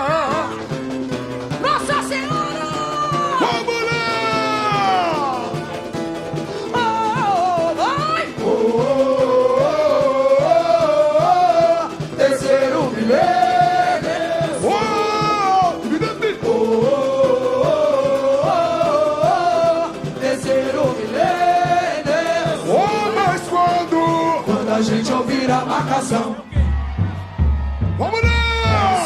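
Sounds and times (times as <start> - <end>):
samba band playing: 0.0 - 29.0
people singing: 2.2 - 5.7, 6.5 - 27.3.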